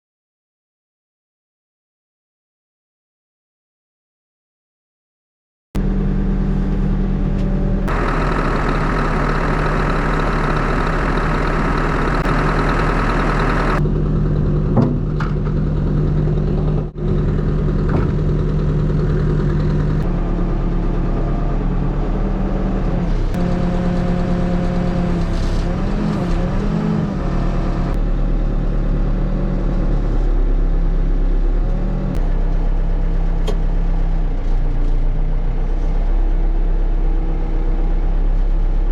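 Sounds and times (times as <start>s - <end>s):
backhoe diesel engine running: 5.8s - 38.9s.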